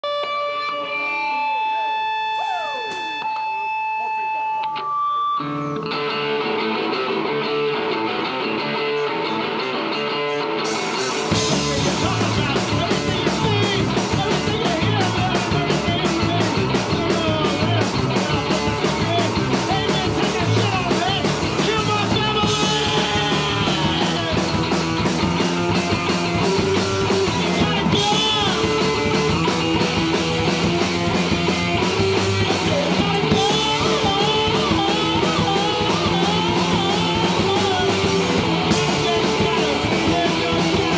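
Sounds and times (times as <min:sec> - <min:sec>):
drums: 0:00.0 - 0:40.9
electric guitar: 0:00.0 - 0:40.9
live rock band playing: 0:00.0 - 0:40.9.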